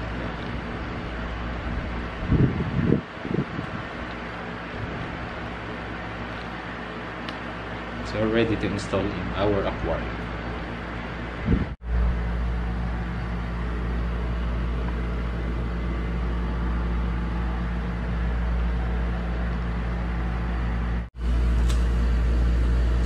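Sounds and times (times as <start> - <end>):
water filter humming: 0.0 - 23.0.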